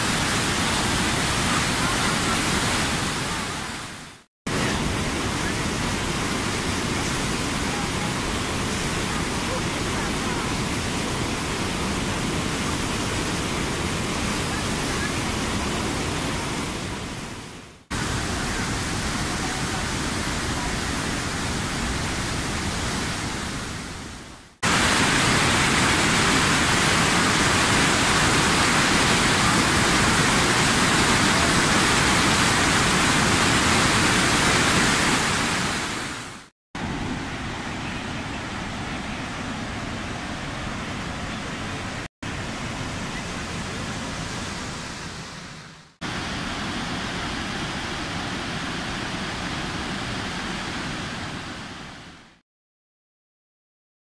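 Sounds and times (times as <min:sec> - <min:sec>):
waterfall rushing: 0:00.0 - 0:52.2.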